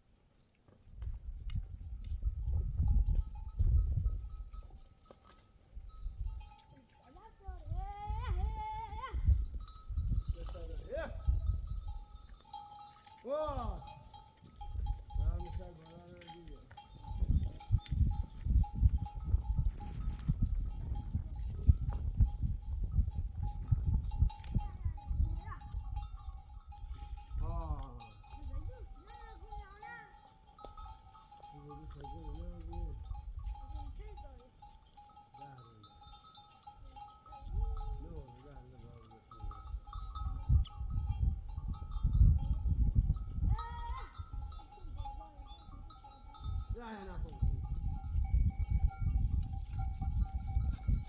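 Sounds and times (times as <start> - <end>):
sheep bells clanking: 1.8 - 51.0.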